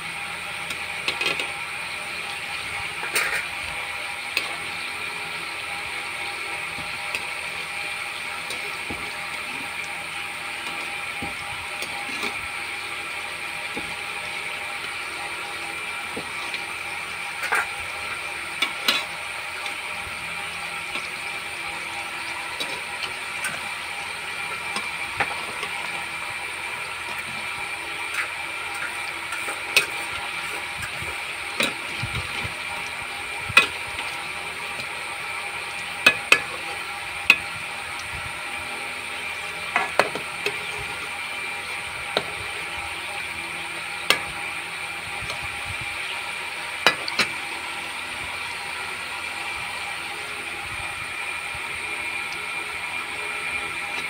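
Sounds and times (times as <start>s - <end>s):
dumplings sizzling in hot oil: 0.0s - 54.0s.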